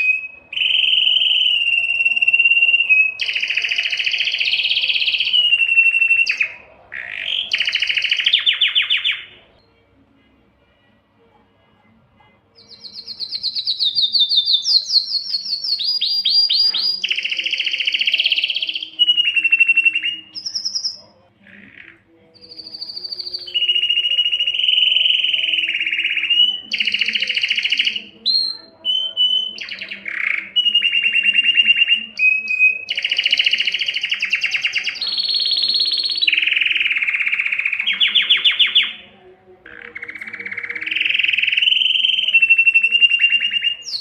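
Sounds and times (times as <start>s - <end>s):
canary singing trills: 0.0s - 10.0s, 11.6s - 44.0s.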